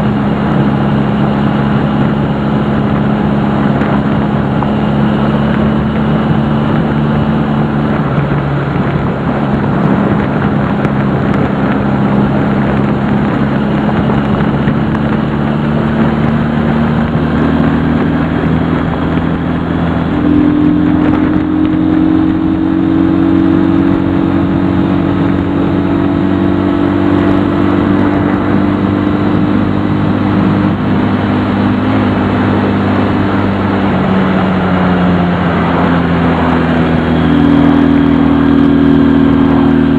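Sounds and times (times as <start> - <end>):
motorcycle engine running: 0.0 - 39.9
rushing noise: 0.0 - 39.9.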